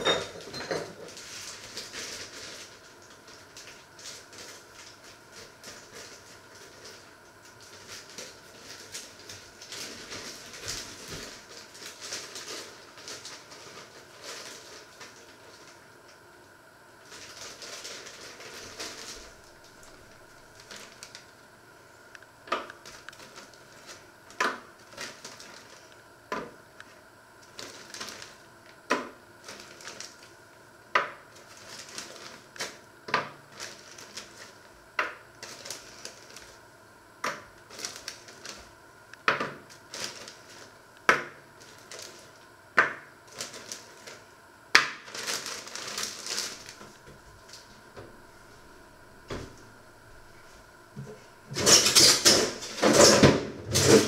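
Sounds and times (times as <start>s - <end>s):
plastic bag rustling: 0.0s - 16.2s, 17.0s - 22.0s, 22.6s - 30.5s, 31.2s - 36.7s, 37.3s - 44.3s, 44.9s - 54.0s.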